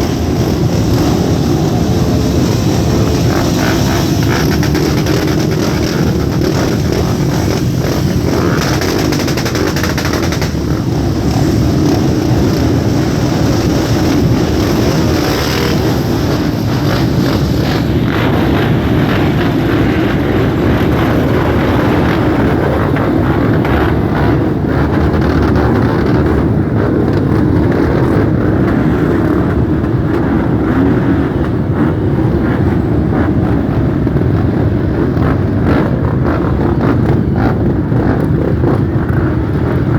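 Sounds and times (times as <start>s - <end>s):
many motorcycle engines: 0.0s - 39.9s.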